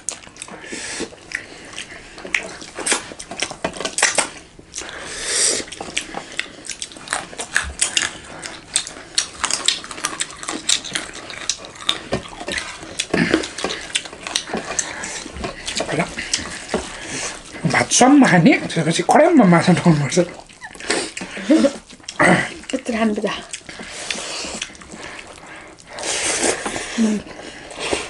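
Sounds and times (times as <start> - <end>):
chewing and mouth clicks: 0.0 - 28.0.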